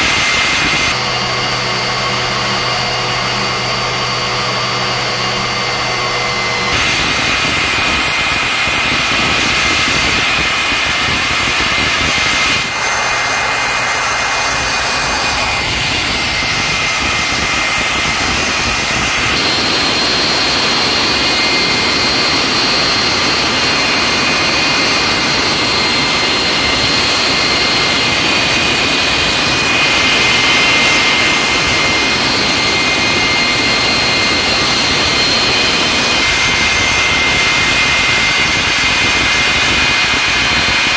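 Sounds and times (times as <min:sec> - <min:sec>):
jet engine roaring with high whine: 0:00.0 - 0:40.9.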